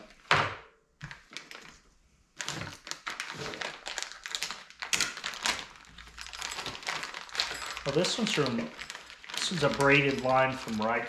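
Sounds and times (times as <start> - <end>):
plastic packaging crinkling: 1.0 - 11.0.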